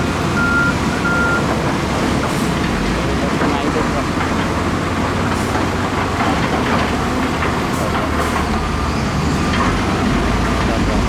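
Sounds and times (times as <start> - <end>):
diesel machinery engine rumble: 0.0 - 11.0.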